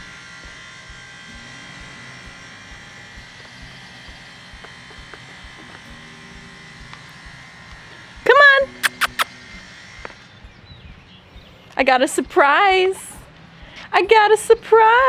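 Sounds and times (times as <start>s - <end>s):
faint mechanical hum: 0.0s - 15.0s.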